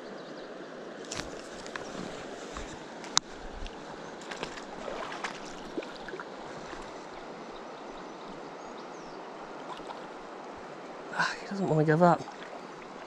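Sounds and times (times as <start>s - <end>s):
river current rippling: 0.5s - 13.0s.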